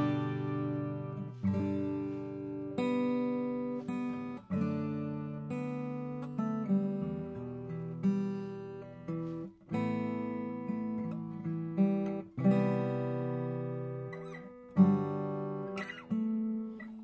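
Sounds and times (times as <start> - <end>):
acoustic guitar chords ringing: 0.0 - 17.0.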